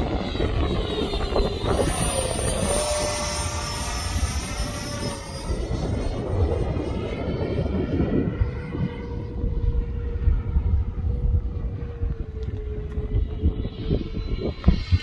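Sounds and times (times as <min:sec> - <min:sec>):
electric ducted fan whine: 0:00.0 - 0:15.0
wind on microphone: 0:00.0 - 0:15.0.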